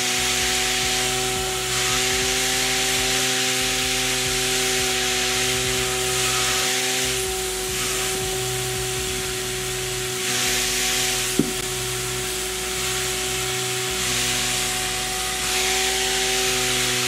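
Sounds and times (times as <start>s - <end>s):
rushing hiss of air: 0.0s - 17.0s
small motor whine: 0.0s - 17.0s.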